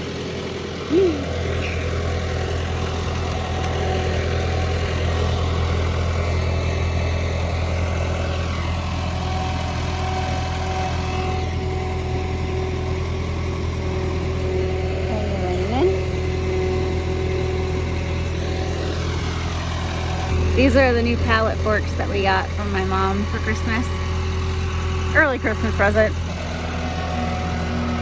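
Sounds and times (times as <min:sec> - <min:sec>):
skid steer engine running: 0:00.0 - 0:28.0.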